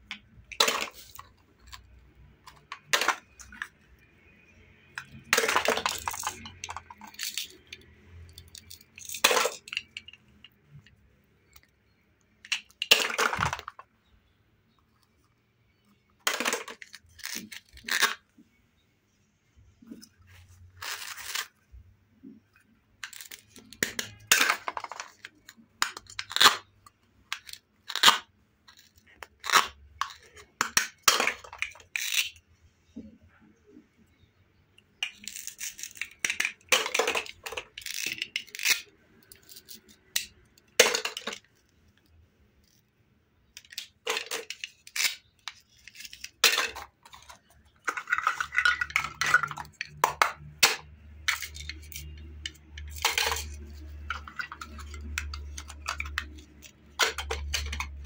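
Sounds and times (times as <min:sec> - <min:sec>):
plastic pieces clacking: 0:00.0 - 0:14.0, 0:14.9 - 0:18.4, 0:19.8 - 0:32.4, 0:35.0 - 0:42.8, 0:43.5 - 0:58.0.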